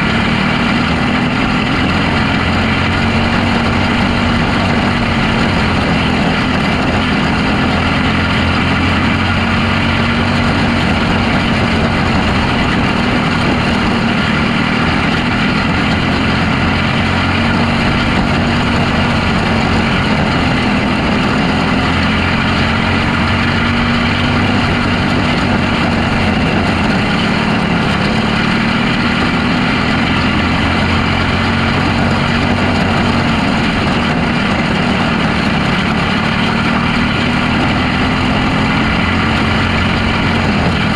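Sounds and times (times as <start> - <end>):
racing car engine: 0.0 - 40.9.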